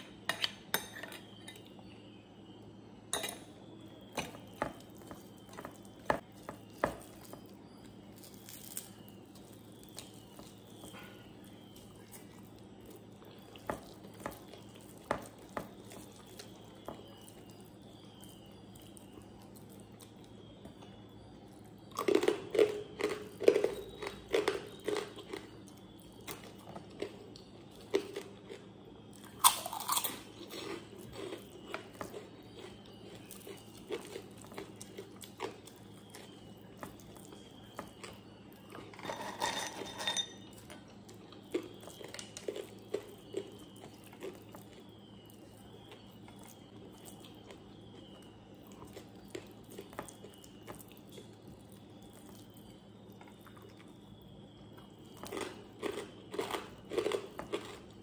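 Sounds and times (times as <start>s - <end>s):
person chewing crisp food: 3.9s - 39.0s, 40.4s - 58.0s.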